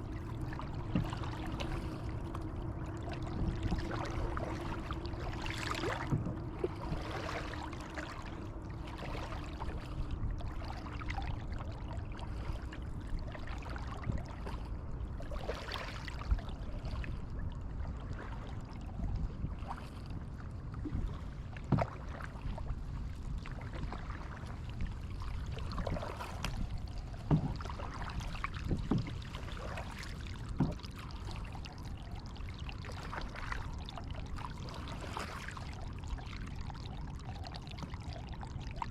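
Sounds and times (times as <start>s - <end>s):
low steady rumble: 0.0s - 38.9s
paddle splashing water: 0.0s - 38.9s.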